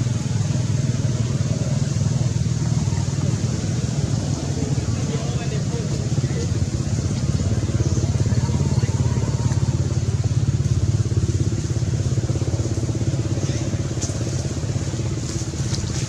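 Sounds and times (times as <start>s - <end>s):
motor engine running: 0.0s - 16.0s.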